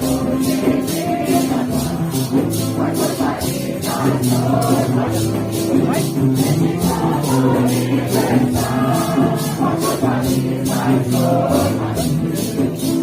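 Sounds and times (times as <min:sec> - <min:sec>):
shaker steady beat: 0:00.0 - 0:13.0
voices singing a slow hymn: 0:00.0 - 0:13.0.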